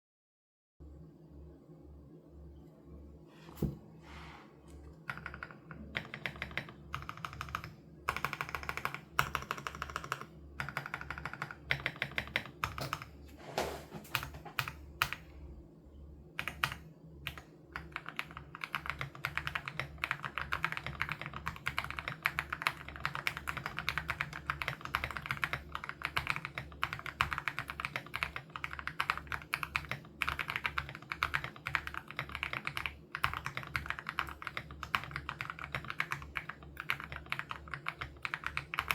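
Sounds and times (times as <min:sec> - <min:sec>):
mechanical keyboard typing: 0:05.0 - 0:13.2, 0:14.1 - 0:15.2, 0:16.4 - 0:38.9.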